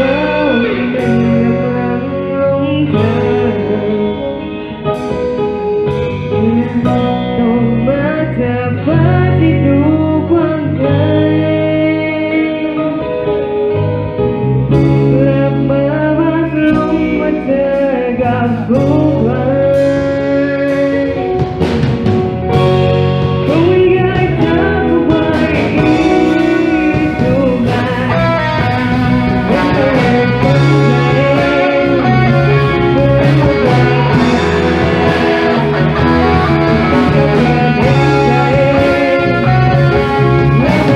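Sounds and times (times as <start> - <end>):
drums: 0.0 - 8.0, 14.7 - 40.9
person singing: 0.0 - 13.8, 14.8 - 21.7, 22.6 - 40.9
bass: 0.0 - 40.9
guitar: 0.0 - 40.9.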